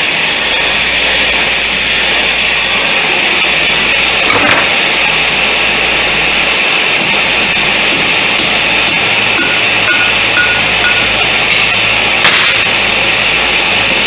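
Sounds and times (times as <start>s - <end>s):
gas torch hissing roar: 0.0s - 14.0s.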